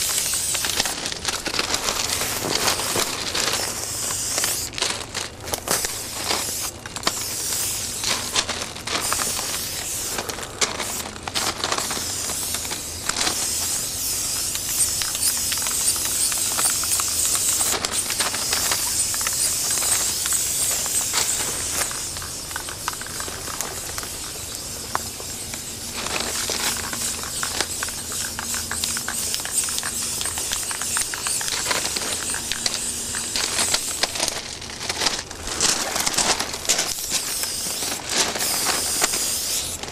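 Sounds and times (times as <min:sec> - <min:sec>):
spray paint can hissing: 0:00.0 - 0:34.5, 0:36.4 - 0:39.9.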